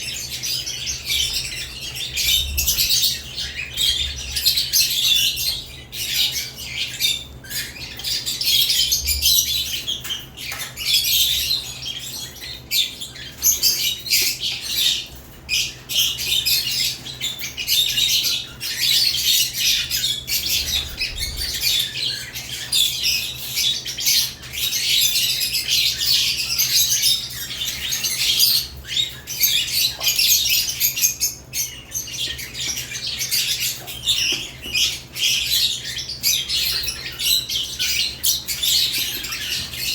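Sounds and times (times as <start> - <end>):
lovebirds chattering and squawking: 0.0 - 39.9.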